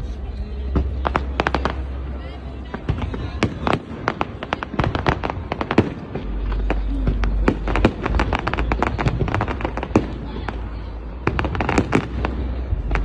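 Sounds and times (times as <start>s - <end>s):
low rumble: 0.0s - 13.0s
fireworks bangs and cracks: 0.1s - 13.0s.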